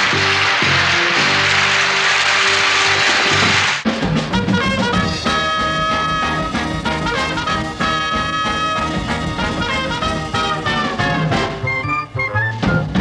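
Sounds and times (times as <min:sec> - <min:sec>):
big band swing music: 0:00.0 - 0:13.0.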